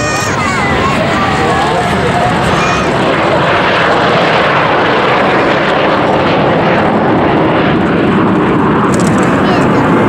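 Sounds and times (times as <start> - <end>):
jet engines at takeoff: 0.0 - 10.0.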